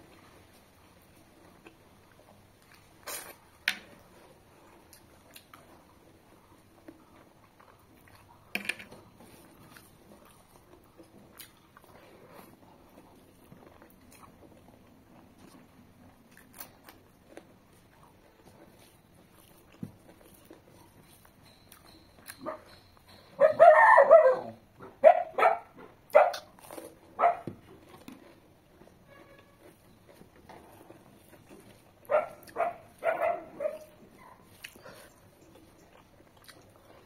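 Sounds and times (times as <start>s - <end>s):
person chewing food: 0.0s - 23.5s, 25.6s - 37.0s.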